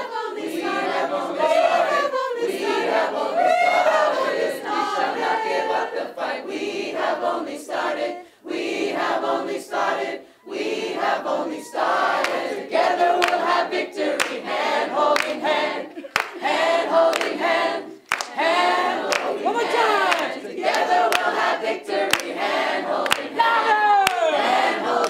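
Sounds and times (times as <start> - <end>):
group singing a cappella: 0.0 - 25.0.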